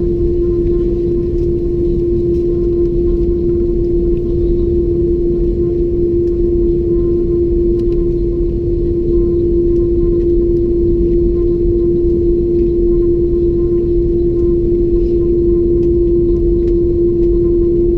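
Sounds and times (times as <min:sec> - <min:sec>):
airplane engines droning in cabin: 0:00.0 - 0:17.9.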